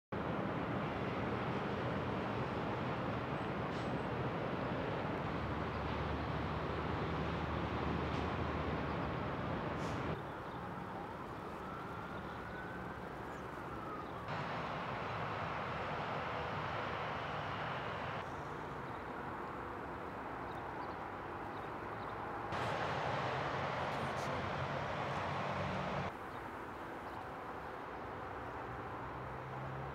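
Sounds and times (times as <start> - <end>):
freeway traffic noise: 0.2 - 29.9.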